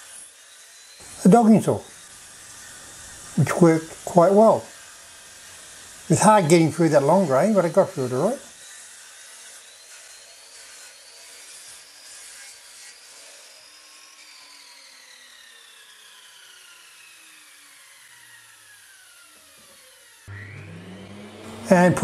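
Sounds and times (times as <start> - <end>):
mitre saw cutting wood: 0.0 - 22.0
saw blade whine: 0.0 - 22.0.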